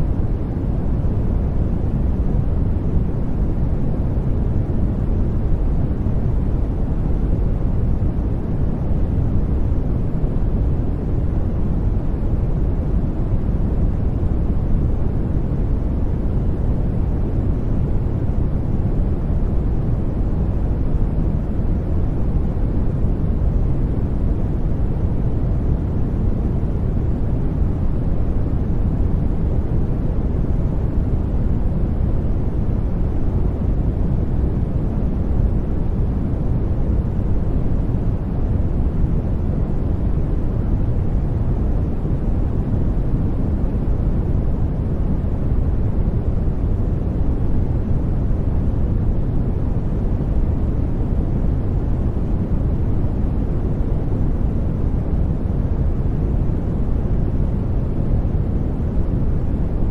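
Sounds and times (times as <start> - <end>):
deep white noise: 0.0 - 59.9.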